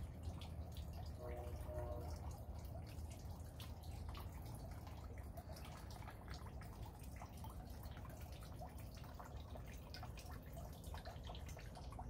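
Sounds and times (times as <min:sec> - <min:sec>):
light rain dripping: 0:00.0 - 0:12.0.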